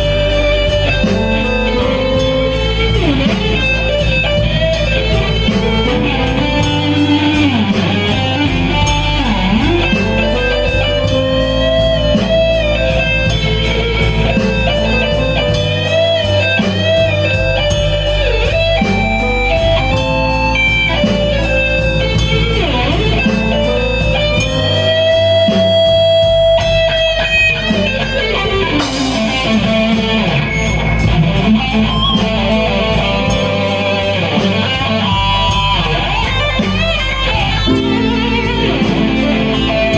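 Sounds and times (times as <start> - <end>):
blues-rock band playing: 0.0 - 39.9
electric guitar lead: 0.0 - 39.9.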